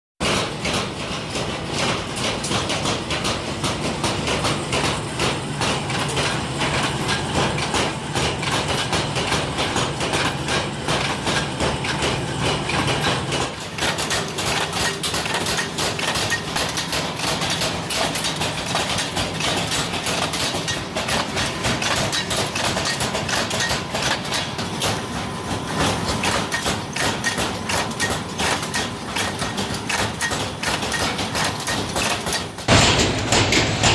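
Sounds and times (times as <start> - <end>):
metal hammering: 0.2 - 33.9
steady machine hum: 0.3 - 33.9.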